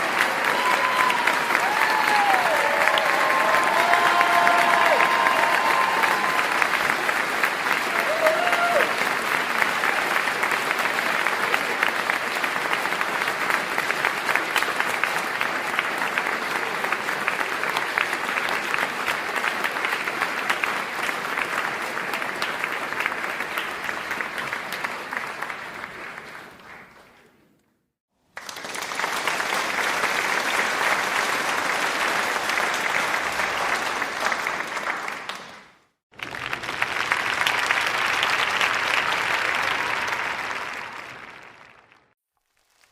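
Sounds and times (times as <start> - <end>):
applause: 0.0 - 27.6, 28.2 - 42.9.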